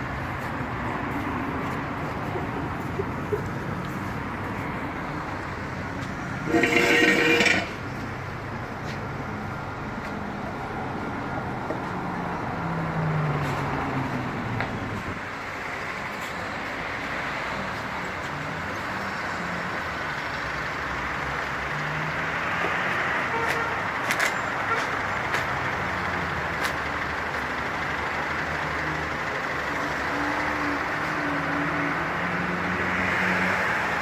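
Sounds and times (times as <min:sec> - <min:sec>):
road traffic engines: 0:00.0 - 0:34.0.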